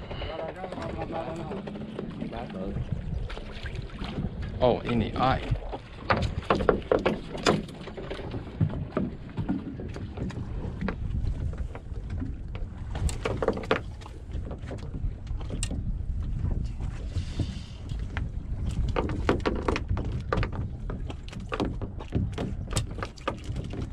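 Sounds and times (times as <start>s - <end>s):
wind rumbling on microphone: 0.0s - 23.9s.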